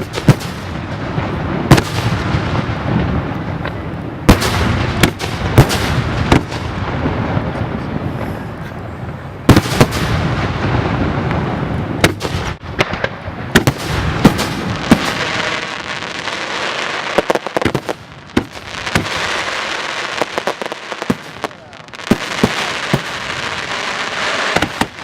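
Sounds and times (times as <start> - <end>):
fireworks bursting with sharp bangs: 0.0 - 25.0
rumble and hiss of fireworks: 0.0 - 25.0.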